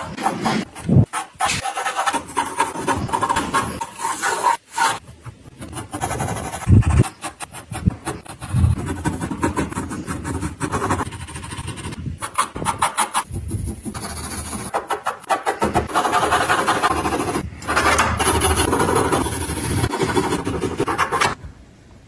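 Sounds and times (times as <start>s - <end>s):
pencil scratching on paper: 0.0s - 17.5s, 18.2s - 21.4s.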